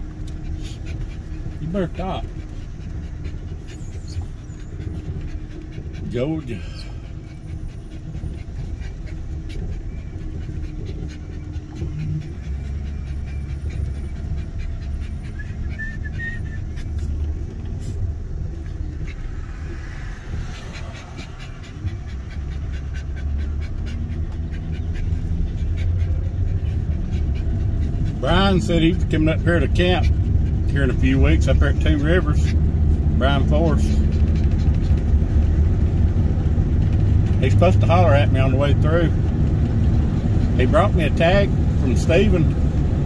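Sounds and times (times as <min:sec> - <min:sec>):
dog panting: 0:00.0 - 0:43.0
vehicle engine and road rumble: 0:00.0 - 0:43.0.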